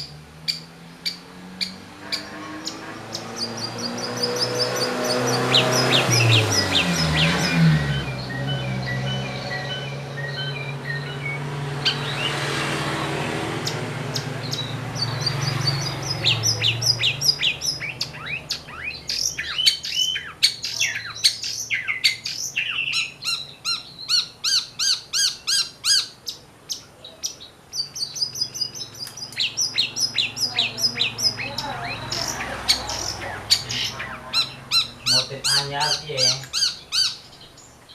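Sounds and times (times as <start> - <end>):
shrike chattering song: 0.0 - 12.4, 13.0 - 37.8.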